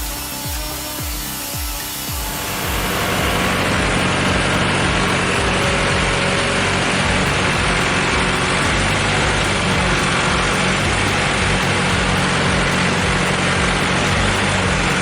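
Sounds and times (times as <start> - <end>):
broad mechanical noise: 0.0 - 15.0
heavy machine engine running: 0.0 - 15.0.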